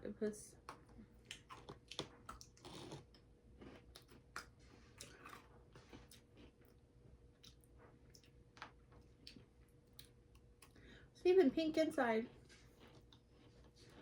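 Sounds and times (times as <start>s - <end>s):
crunching and chewing cookies: 0.5s - 14.0s.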